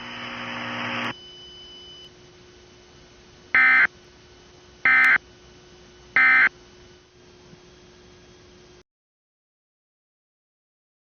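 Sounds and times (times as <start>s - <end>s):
faint steady hum: 0.0s - 8.8s.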